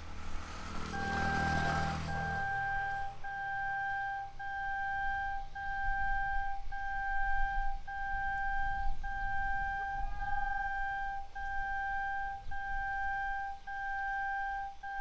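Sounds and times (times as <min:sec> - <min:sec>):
level crossing warning tone: 0:00.0 - 0:15.0.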